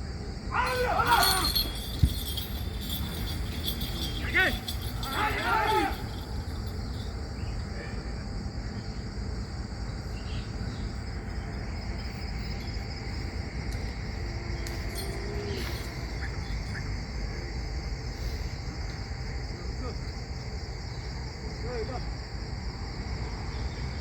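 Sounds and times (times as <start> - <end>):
constant low rumble: 0.0 - 24.0
crickets chirring: 0.0 - 24.0.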